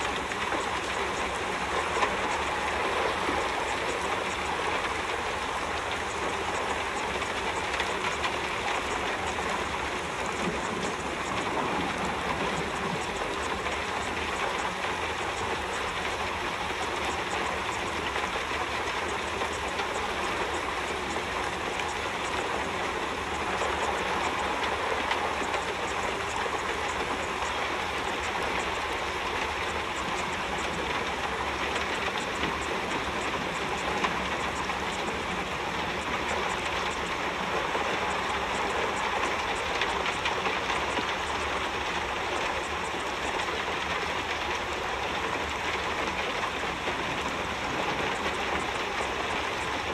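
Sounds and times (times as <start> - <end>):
steady rushing noise with crackle: 0.0 - 49.9.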